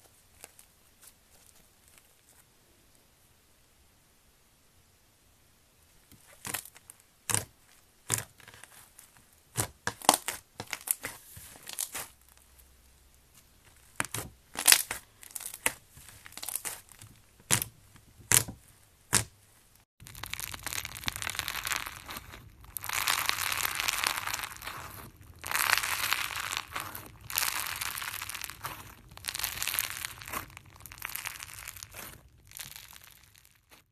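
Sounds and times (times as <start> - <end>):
crunchy slime popping and crackling: 6.1 - 33.9.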